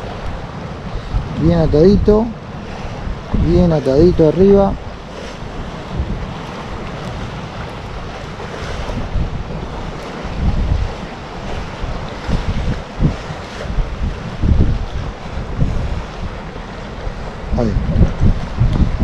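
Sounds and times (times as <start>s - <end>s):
wind blowing over microphone: 0.0s - 19.0s.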